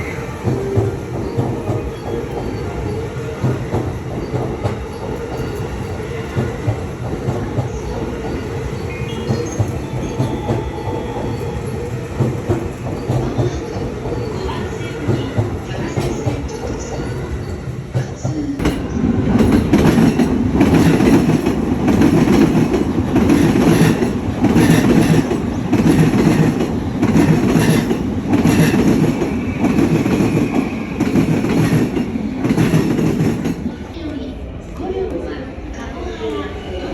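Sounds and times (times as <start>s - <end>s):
train wheels clattering on rails: 0.0s - 34.0s.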